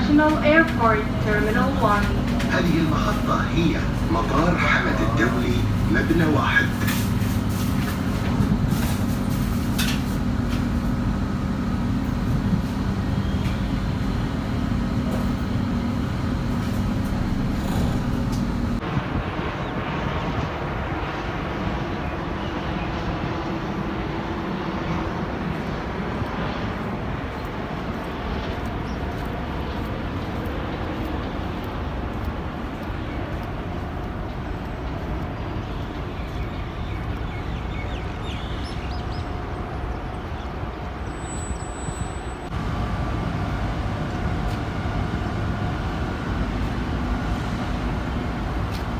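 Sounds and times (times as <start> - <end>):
dull noisy background: 0.0 - 48.9
train carriage hum: 0.0 - 48.9.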